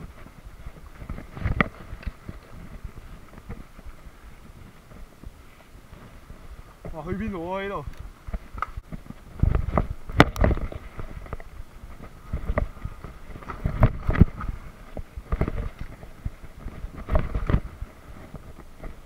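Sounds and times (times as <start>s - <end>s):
mountain bike rattling: 0.0s - 19.0s
wind on microphone: 0.0s - 19.0s.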